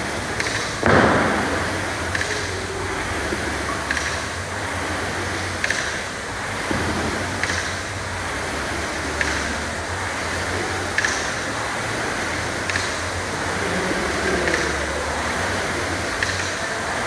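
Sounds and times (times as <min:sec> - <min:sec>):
rowing machine clack: 0:00.0 - 0:17.0
rowing machine fan whirring: 0:00.0 - 0:17.0.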